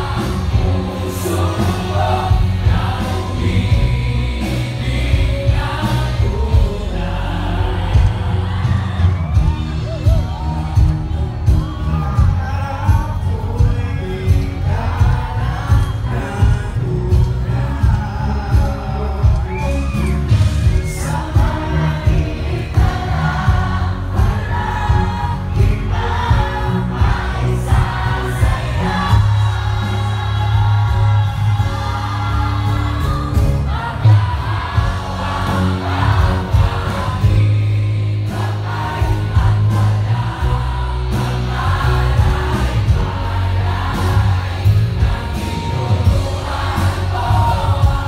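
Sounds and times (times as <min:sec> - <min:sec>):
crowd singing along: 0:00.0 - 0:48.0
live pop music over pa: 0:00.0 - 0:48.0.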